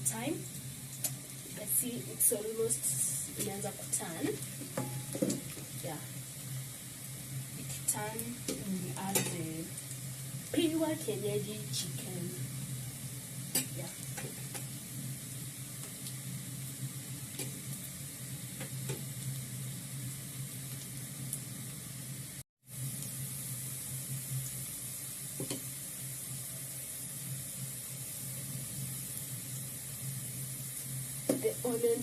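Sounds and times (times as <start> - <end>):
onions sizzling in oil: 0.0 - 32.0.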